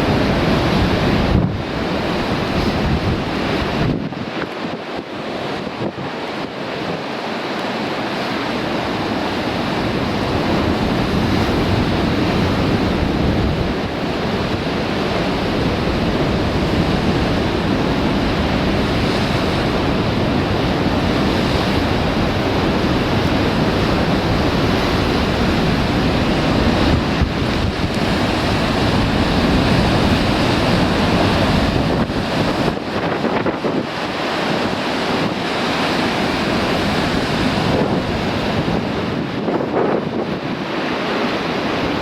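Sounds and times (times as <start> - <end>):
wind buffeting microphone: 0.0 - 7.1, 8.4 - 42.0
waves breaking on rocks: 0.0 - 42.0.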